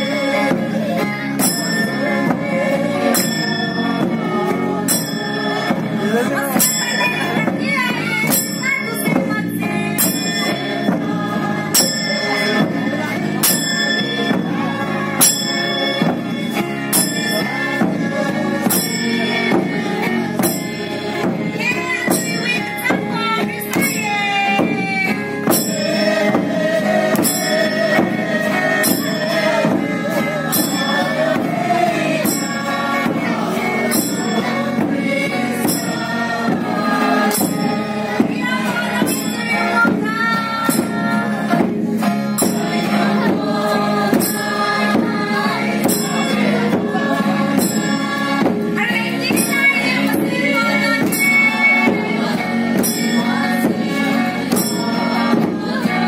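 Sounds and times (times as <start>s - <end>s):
group singing: 0.0s - 56.0s
steady beat: 0.0s - 56.0s
bright metallic jingle: 1.3s - 56.0s.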